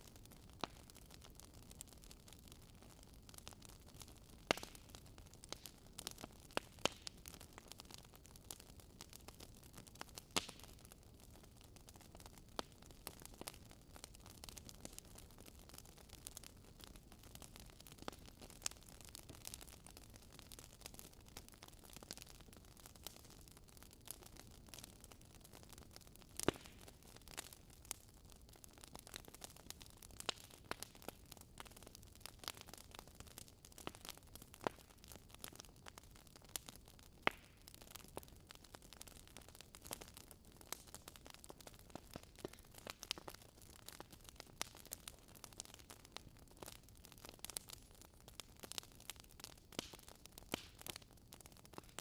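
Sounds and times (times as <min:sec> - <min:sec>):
campfire crackling and popping: 0:00.0 - 0:52.0.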